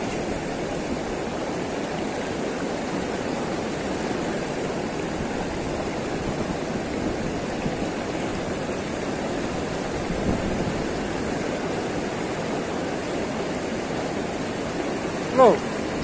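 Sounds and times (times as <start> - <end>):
river water rushing over weir: 0.0 - 16.0.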